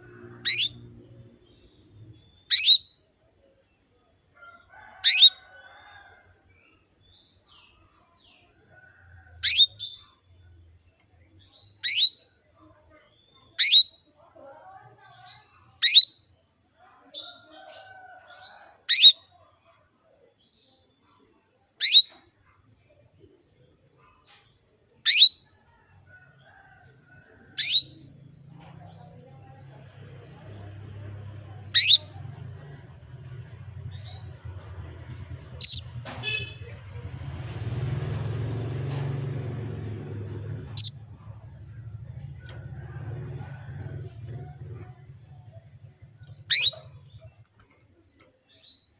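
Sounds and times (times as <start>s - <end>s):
canary chirps: 0.0s - 5.9s, 7.2s - 10.3s, 11.0s - 19.4s, 21.8s - 22.4s, 24.0s - 25.6s, 26.4s - 48.9s.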